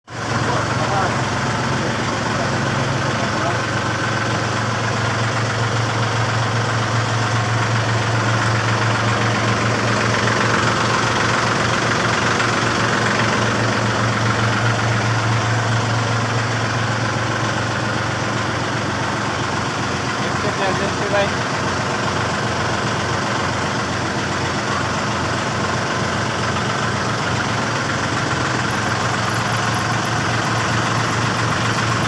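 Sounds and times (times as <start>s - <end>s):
diesel engine idling: 0.1s - 32.0s.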